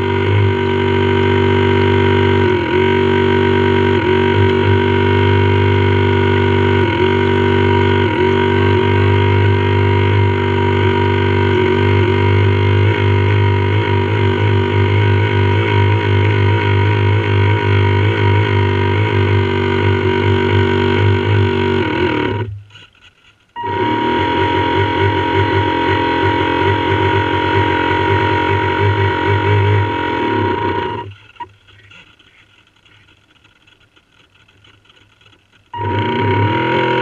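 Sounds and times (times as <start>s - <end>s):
model boat motor whining: 0.0s - 37.0s.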